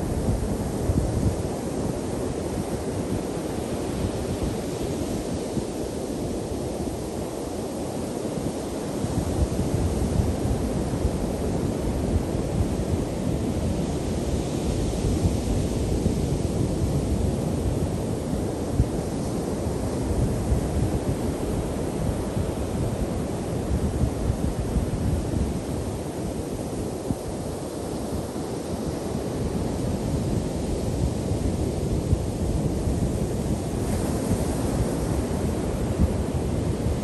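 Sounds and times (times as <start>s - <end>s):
ocean surf breaking on beach: 0.0s - 37.0s
wind buffeting microphone: 0.0s - 37.0s.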